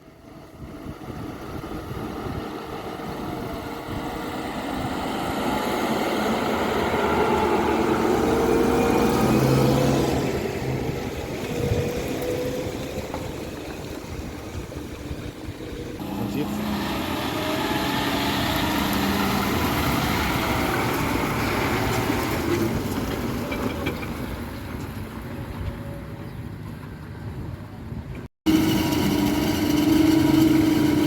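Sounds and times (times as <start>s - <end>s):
heavy machinery engine running: 0.3s - 24.4s, 28.5s - 31.0s.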